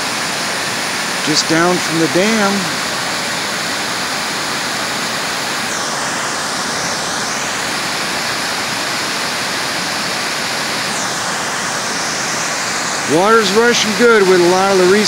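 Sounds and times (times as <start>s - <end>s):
water rushing over a spillway: 0.0s - 15.0s.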